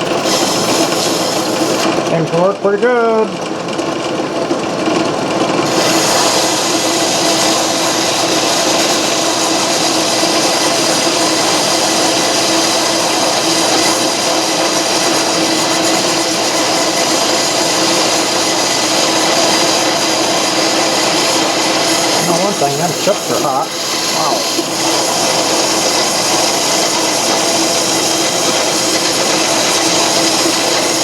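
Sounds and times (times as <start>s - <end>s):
lathe cutting hiss: 0.0s - 2.4s, 5.6s - 31.0s
lathe humming: 0.0s - 31.0s.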